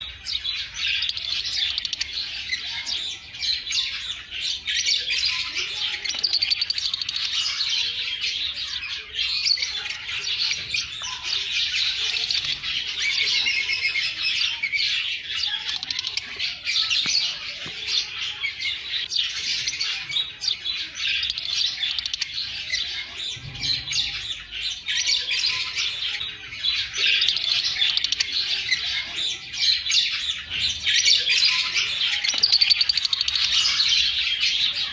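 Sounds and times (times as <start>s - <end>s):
lovebirds chirping and squawking: 0.0s - 34.9s.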